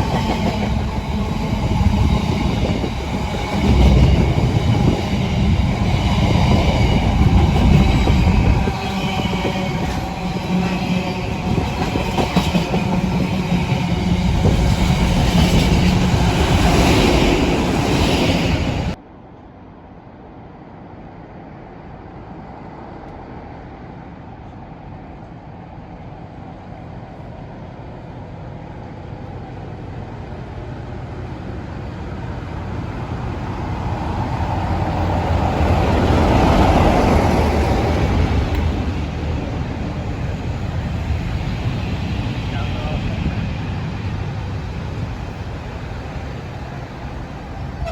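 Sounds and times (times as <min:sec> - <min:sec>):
diesel train engine passing: 0:00.0 - 0:47.9.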